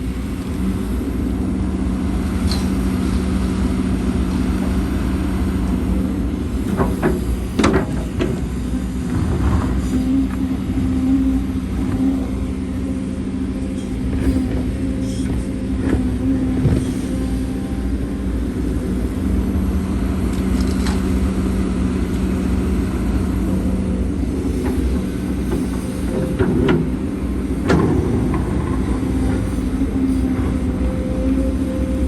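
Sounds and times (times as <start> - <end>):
diesel machinery running: 0.0 - 32.0.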